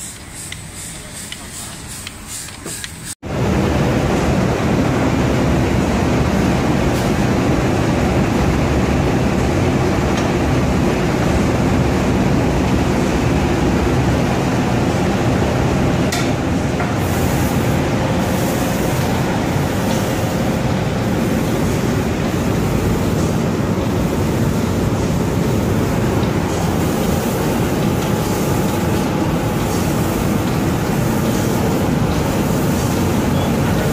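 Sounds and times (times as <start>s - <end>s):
paint spraying machine rumble and hiss: 0.0s - 33.9s.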